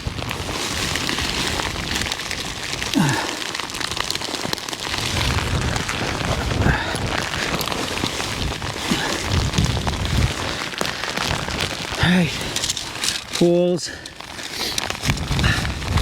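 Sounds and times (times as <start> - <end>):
wind buffeting microphone: 0.0 - 3.2, 4.8 - 13.4, 14.8 - 16.0
heavy rain pouring: 0.0 - 16.0.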